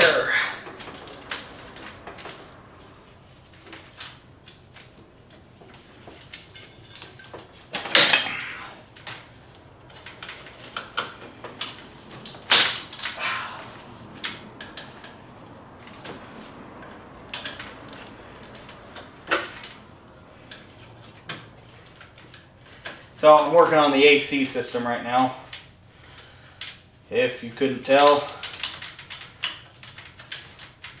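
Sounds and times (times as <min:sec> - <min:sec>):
tools and car parts clinking: 0:00.0 - 0:23.2, 0:25.0 - 0:27.0, 0:27.8 - 0:31.0.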